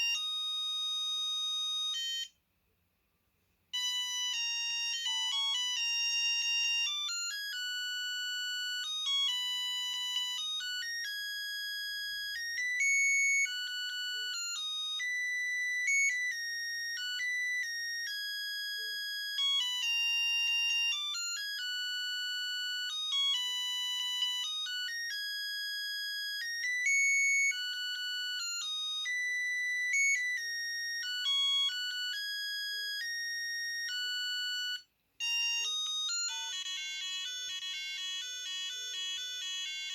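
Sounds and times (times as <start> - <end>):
electronic phone ringtone melody: 0.0 - 2.3, 3.8 - 39.9.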